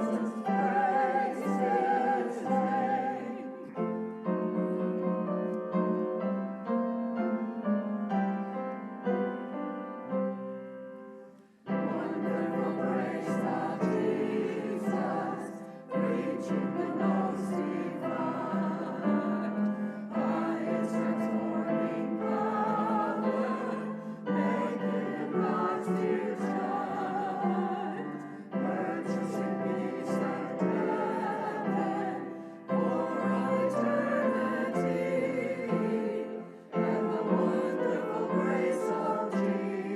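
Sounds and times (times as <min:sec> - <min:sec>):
piano playing: 0:00.0 - 0:39.9.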